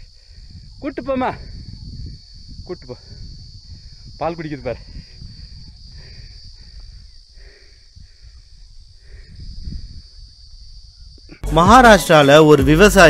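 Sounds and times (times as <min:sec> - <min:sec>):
high insect drone: 0:00.0 - 0:12.6.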